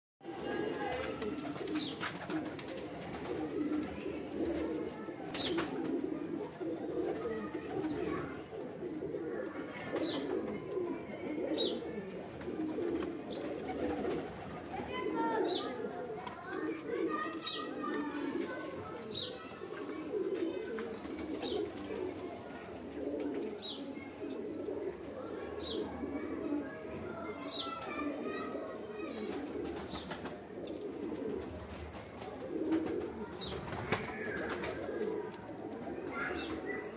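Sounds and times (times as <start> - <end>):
pigeons cooing: 0.3 - 36.9.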